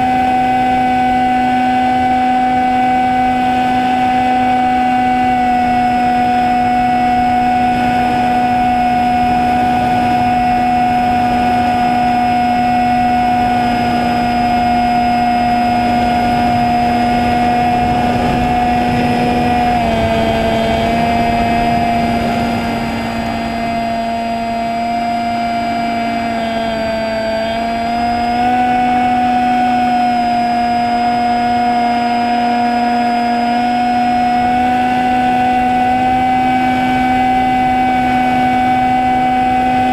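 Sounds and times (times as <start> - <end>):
drone motor and propeller whine: 0.0 - 39.9.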